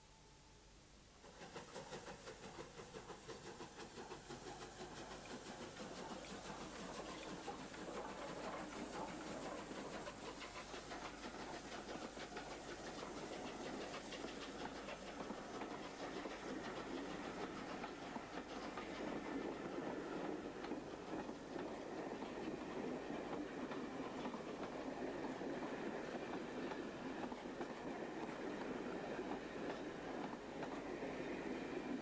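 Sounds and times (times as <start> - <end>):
steam locomotive exhaust: 1.2 - 32.0.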